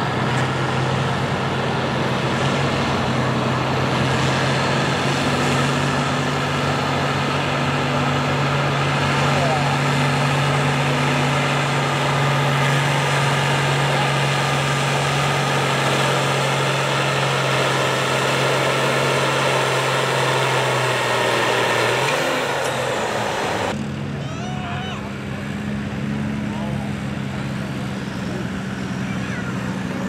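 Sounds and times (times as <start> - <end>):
diesel tractor engine under load: 0.0 - 30.0.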